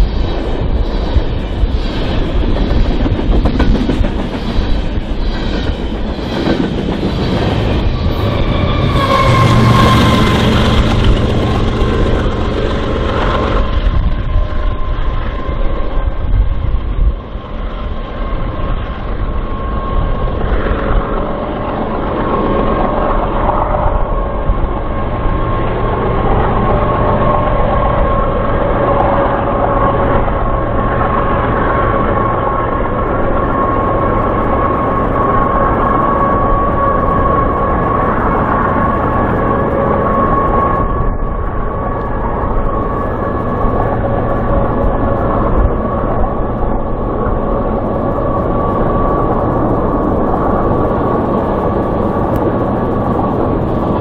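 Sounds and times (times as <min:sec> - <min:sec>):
freight train rumbling on rails: 0:00.0 - 0:54.0
steady high whine: 0:00.0 - 0:54.0.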